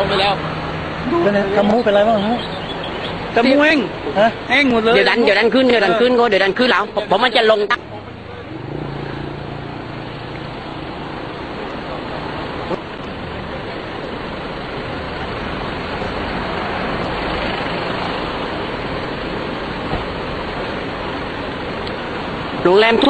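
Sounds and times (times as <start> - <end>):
rushing roar of flood surge: 0.0 - 23.0.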